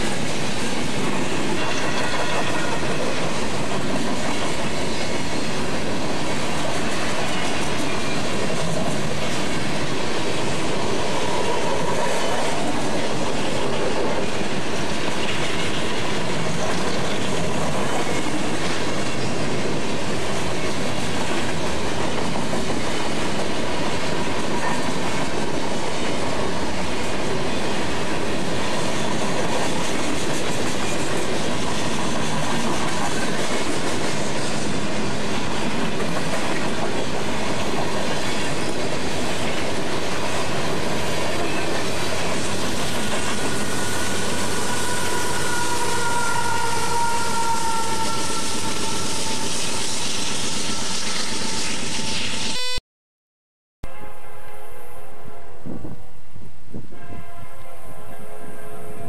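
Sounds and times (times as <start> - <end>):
steel wheels running on rails: 0.0 - 52.5.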